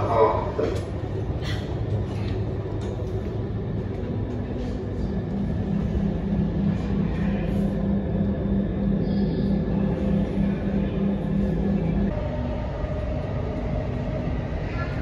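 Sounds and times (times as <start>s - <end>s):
low hum: 0.0s - 15.0s
metro train wheels rumbling: 0.0s - 15.0s.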